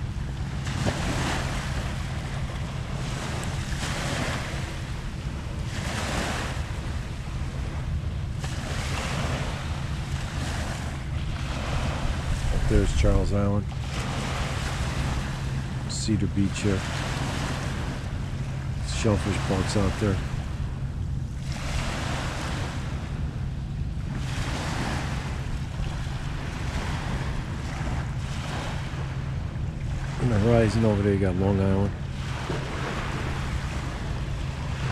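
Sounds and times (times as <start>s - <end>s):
small waves washing in: 0.0s - 34.9s
wind buffeting microphone: 0.0s - 34.9s.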